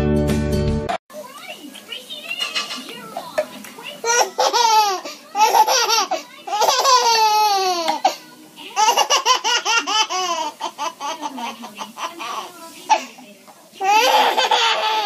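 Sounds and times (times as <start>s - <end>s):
baby laughing: 2.1s - 13.2s, 13.8s - 15.0s.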